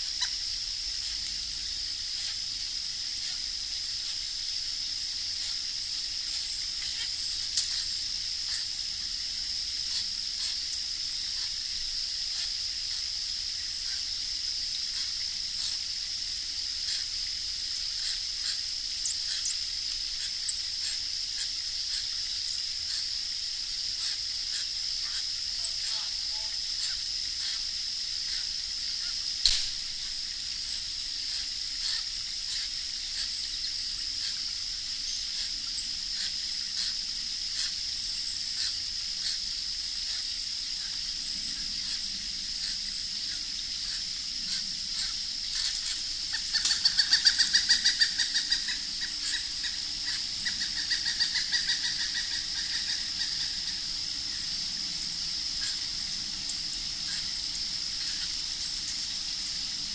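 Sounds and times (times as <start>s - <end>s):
steady high hiss: 0.0s - 59.9s.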